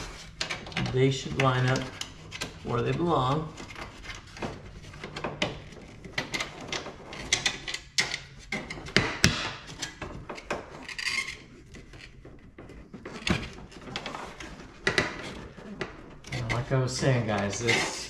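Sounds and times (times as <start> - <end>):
scraping rub: 0.0 - 9.0, 9.6 - 18.0.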